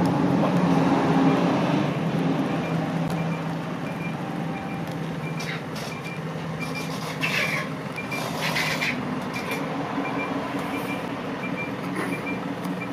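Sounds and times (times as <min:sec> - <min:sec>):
bus engine hum: 0:00.0 - 0:12.9.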